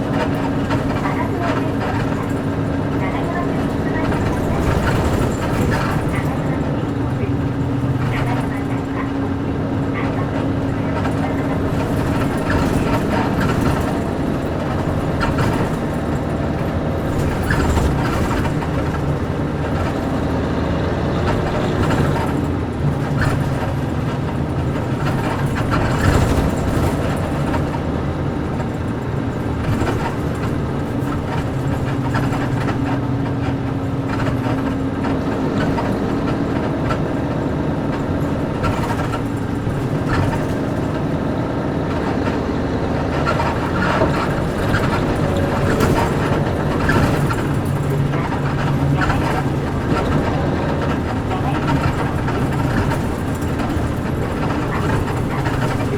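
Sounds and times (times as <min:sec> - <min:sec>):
body clicks rattles and creaks: 0:00.0 - 0:55.9
bus diesel engine running: 0:00.0 - 0:55.9.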